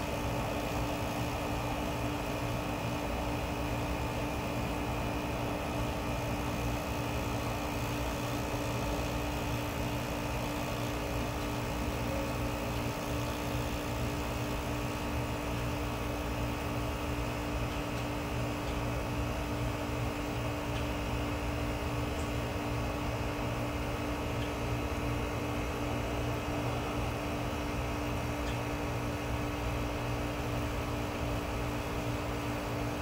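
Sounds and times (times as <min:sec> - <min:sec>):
heat pump humming: 0:00.0 - 0:33.0.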